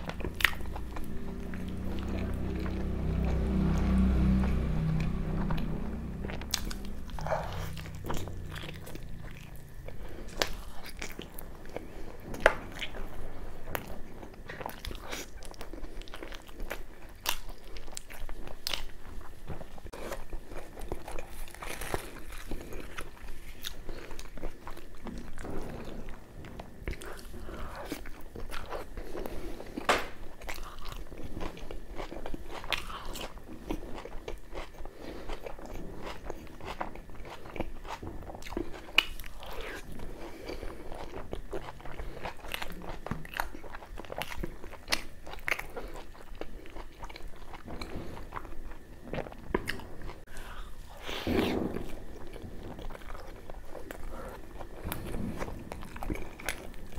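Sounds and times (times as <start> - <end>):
man chewing wet food: 0.0 - 56.9.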